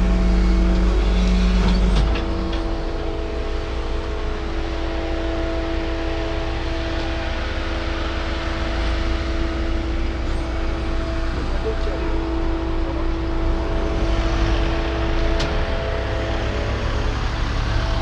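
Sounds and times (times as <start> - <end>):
truck engine rumbling with whine: 0.0 - 18.0.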